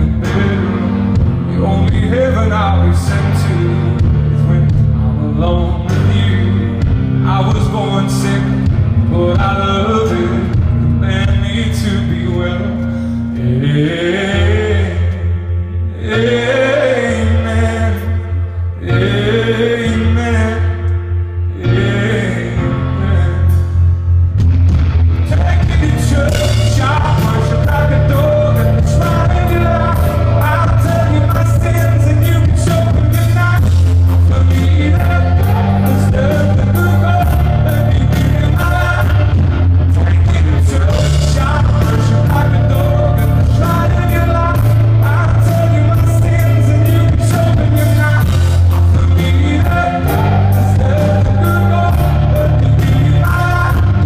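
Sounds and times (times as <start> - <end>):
man singing lead vocal: 0.0 - 24.0, 25.2 - 54.0
live rock band playing: 0.0 - 54.0.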